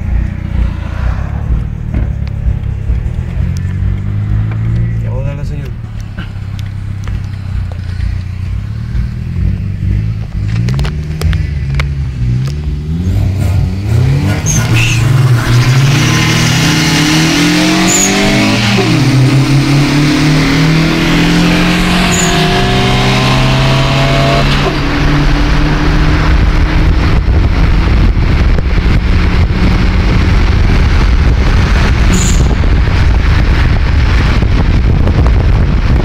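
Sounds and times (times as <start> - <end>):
heavy wind buffeting: 0.0 - 8.6, 15.0 - 36.0
car engine accelerating hard: 0.0 - 36.0.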